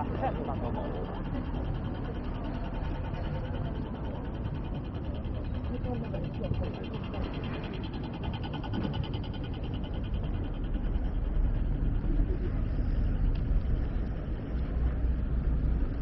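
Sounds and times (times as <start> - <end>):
city street rumble: 0.0 - 16.0.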